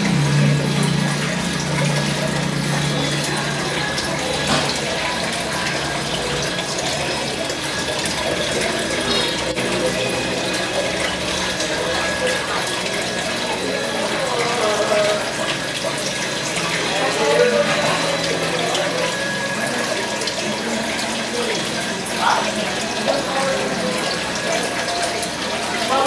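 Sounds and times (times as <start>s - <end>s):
aquarium air bubbles bubbling: 0.0s - 26.0s.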